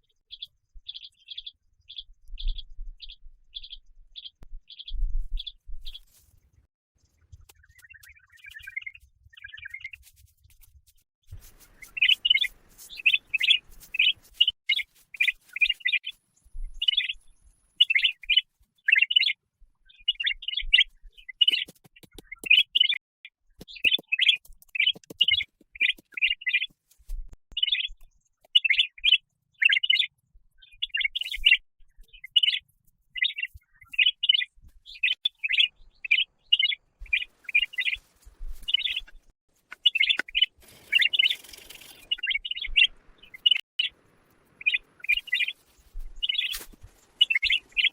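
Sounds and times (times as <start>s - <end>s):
bird chirping: 0.0s - 10.1s, 11.6s - 26.8s, 27.5s - 47.9s.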